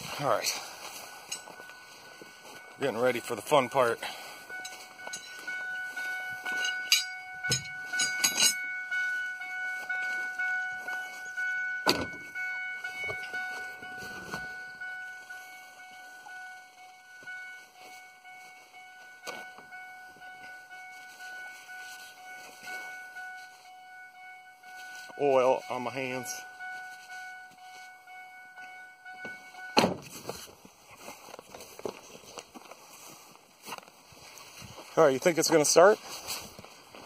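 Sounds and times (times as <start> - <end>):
high-pitched whine: 0.0 - 30.2.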